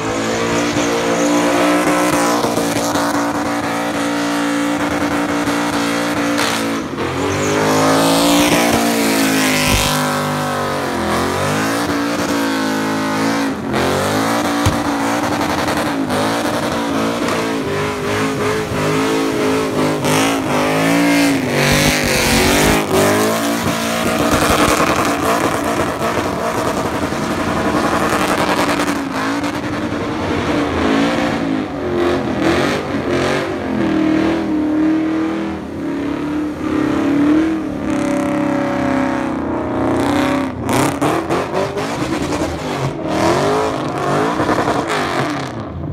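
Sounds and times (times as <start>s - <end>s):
engine revving hard: 0.0s - 45.6s.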